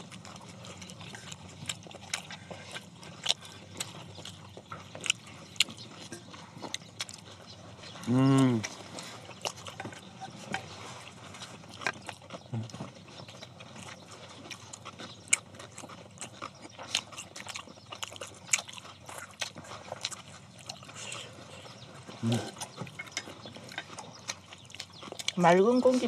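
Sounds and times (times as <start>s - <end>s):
chewing and lip-smacking: 0.0s - 26.0s.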